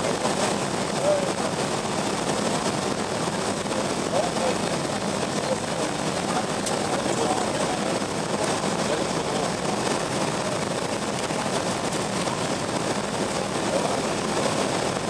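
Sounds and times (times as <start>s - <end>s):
airflow rushing in cabin: 0.0s - 15.0s
jet engines humming: 0.0s - 15.0s.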